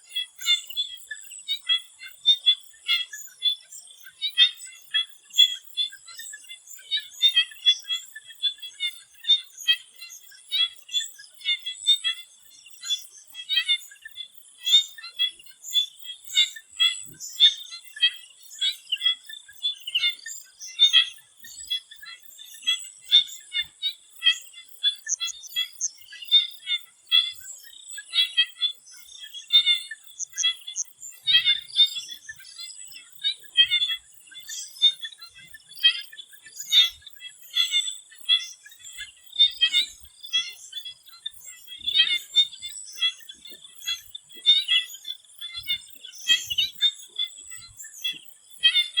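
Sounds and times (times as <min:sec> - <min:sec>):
frogs croaking chorus: 0:00.0 - 0:49.0.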